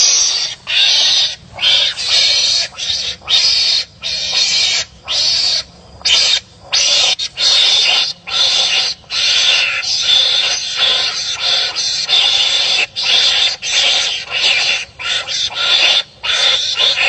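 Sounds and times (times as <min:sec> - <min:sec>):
animals harsh barking calls: 0:00.0 - 0:17.0.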